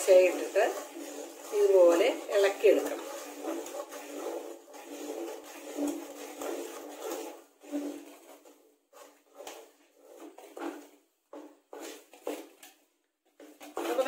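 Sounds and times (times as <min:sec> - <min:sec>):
metal ladle stirring in pan: 0:00.0 - 0:14.0.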